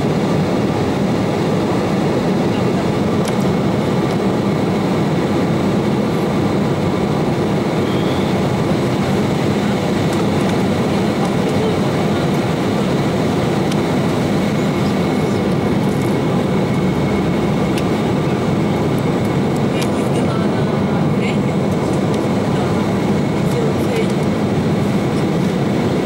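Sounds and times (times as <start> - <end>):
jet engine hum in cabin: 0.0 - 26.0.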